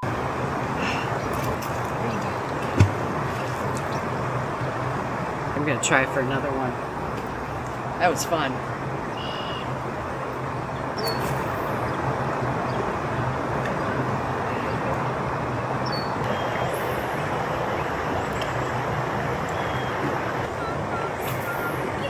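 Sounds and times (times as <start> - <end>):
distant road traffic: 0.0 - 22.0.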